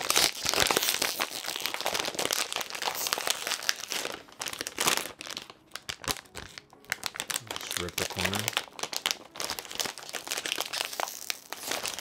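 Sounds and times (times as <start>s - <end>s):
plastic chip bag crinkling: 0.0s - 12.0s.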